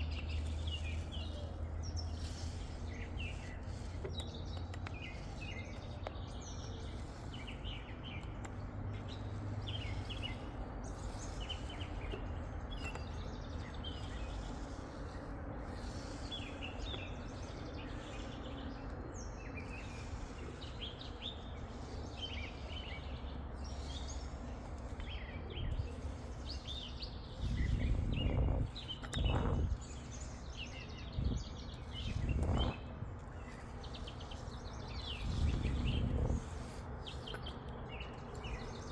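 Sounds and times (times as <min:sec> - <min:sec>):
low outdoor background noise: 0:00.0 - 0:38.9
small birds chirping: 0:00.0 - 0:38.9.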